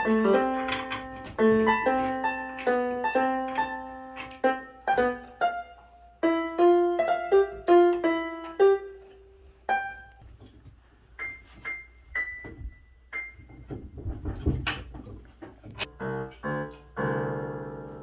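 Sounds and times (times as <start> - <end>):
piano music: 0.0 - 10.4, 11.1 - 13.6, 15.8 - 18.0.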